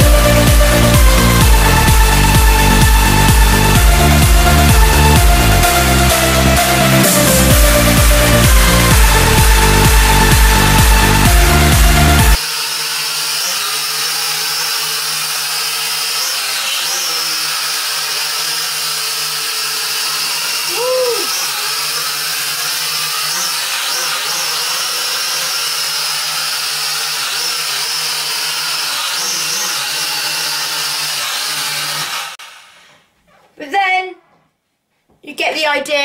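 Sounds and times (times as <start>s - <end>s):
drone propellers buzzing: 0.0s - 32.4s.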